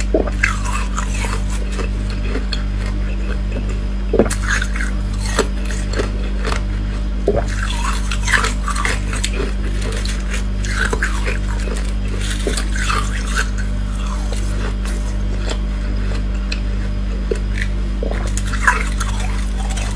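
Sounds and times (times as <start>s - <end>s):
low hum: 0.0s - 19.9s.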